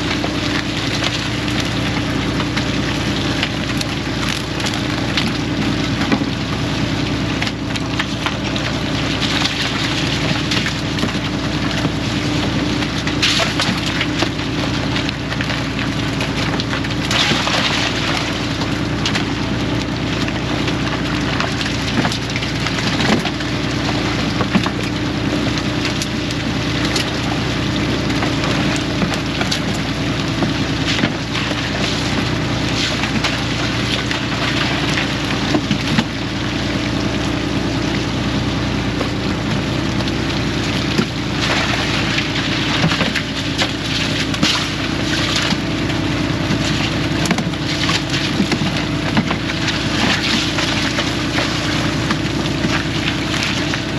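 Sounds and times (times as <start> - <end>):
boat engine running: 0.0 - 53.9
water wash: 0.0 - 53.9.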